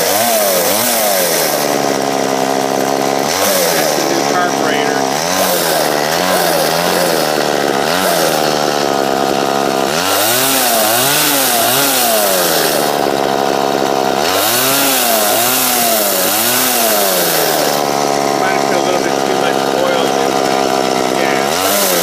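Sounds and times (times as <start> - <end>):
chainsaw idling and revving: 0.0 - 22.0.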